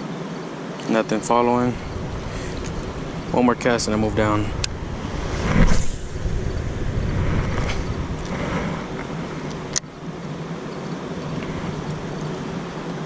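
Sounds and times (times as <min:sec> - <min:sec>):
steady rumbling background: 0:00.9 - 0:13.0.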